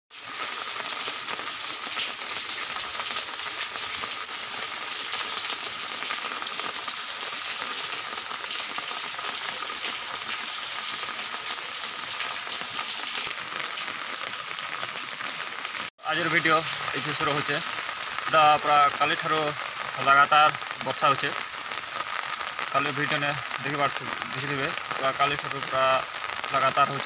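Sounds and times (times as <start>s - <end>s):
rain on concrete and leaves: 0.1s - 27.0s.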